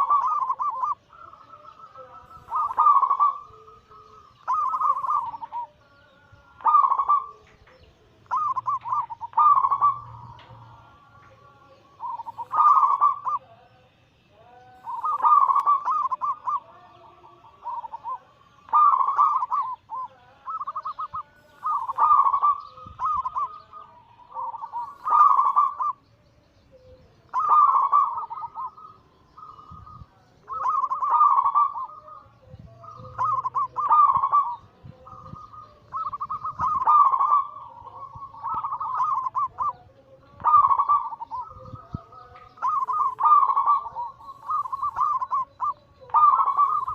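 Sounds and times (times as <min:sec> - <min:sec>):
doves cooing: 0:00.0 - 0:13.7, 0:14.3 - 0:26.0, 0:26.7 - 0:46.9.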